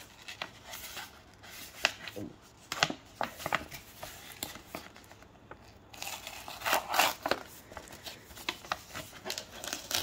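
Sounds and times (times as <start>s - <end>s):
paper envelope rustling: 0.0s - 10.0s.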